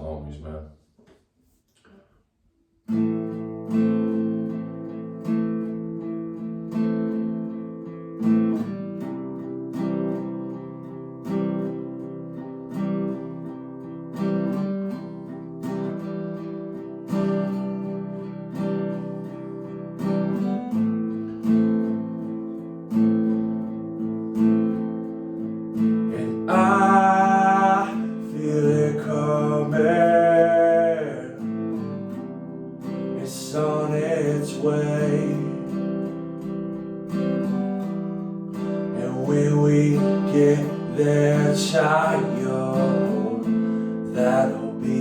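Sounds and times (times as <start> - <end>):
acoustic guitar strumming chords: 2.9 - 45.0.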